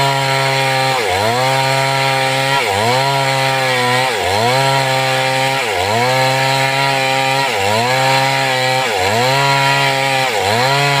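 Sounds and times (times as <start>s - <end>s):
chainsaw running at high revs: 0.0s - 11.0s.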